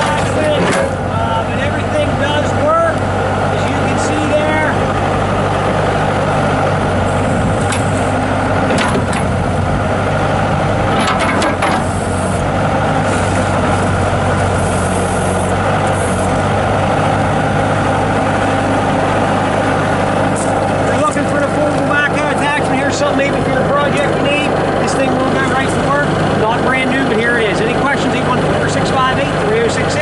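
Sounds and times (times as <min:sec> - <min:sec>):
diesel engine running: 0:00.0 - 0:30.0
hydraulic backhoe working: 0:00.0 - 0:30.0.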